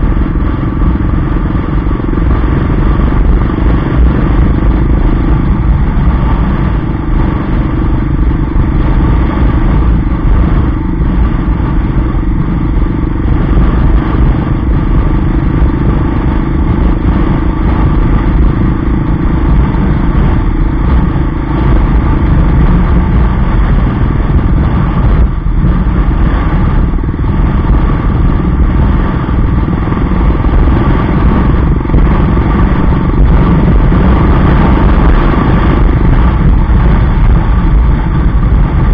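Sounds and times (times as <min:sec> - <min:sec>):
motorcycle engine running: 0:00.0 - 0:38.9
wind rumble on microphone: 0:00.0 - 0:38.9.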